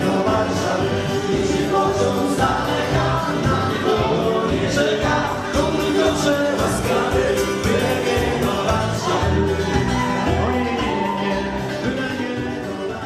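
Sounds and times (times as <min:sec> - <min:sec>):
live band playing dance music: 0:00.0 - 0:13.0
person singing: 0:00.0 - 0:13.0.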